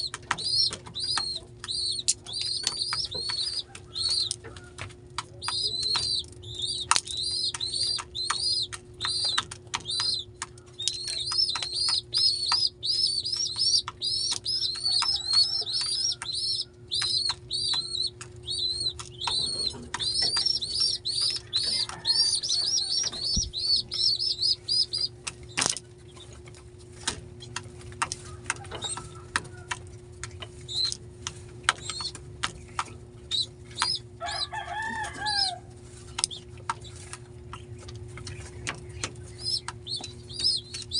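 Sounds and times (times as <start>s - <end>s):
sharp clicks: 0.0s - 34.1s, 36.1s - 40.9s
wings fluttering: 0.0s - 40.9s
young pigeons peeping: 0.0s - 40.9s.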